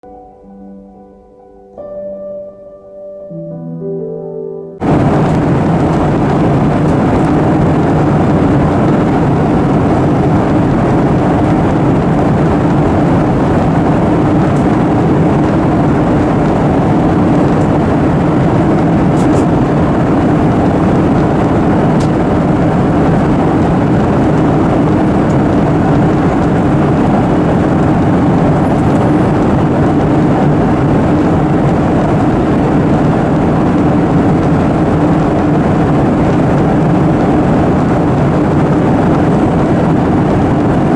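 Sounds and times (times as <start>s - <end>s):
jet engine cabin rumble: 4.8s - 40.9s
low hum: 4.8s - 40.9s
rushing air: 4.8s - 40.9s.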